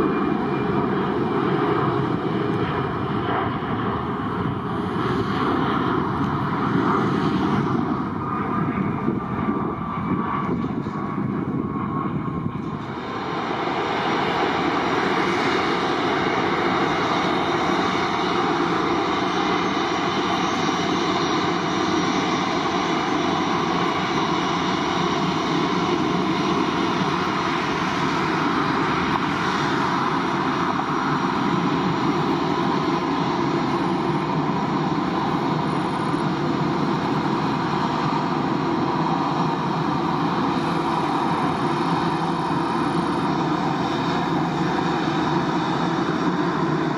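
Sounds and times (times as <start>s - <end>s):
aircraft engines running: 0.0s - 46.9s.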